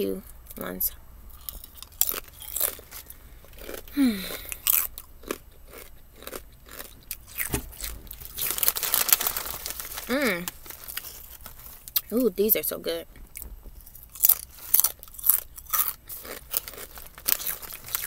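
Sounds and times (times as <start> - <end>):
person crunching potato chips: 1.3 - 12.1, 13.8 - 18.0.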